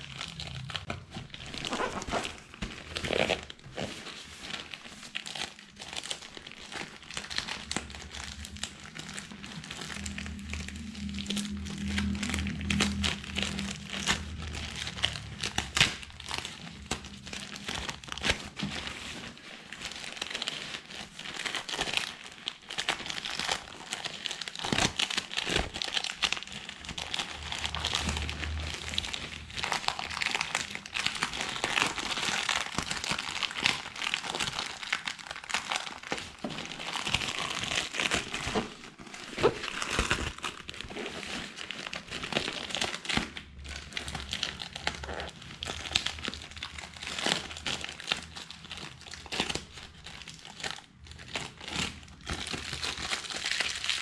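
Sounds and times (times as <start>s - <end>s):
plastic and jacket crinkling: 0.0s - 54.0s.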